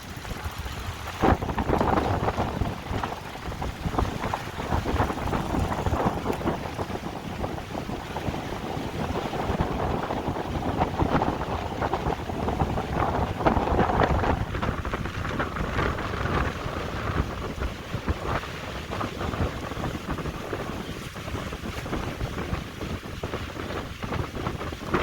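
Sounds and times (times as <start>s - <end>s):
rough sea surf: 0.0s - 25.0s
wind buffeting microphone: 0.0s - 25.0s.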